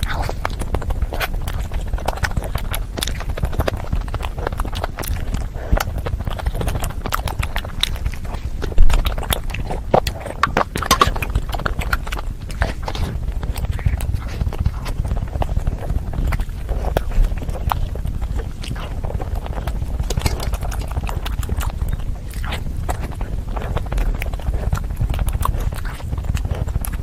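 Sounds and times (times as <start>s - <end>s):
chewing with wet smacks: 0.0s - 27.0s.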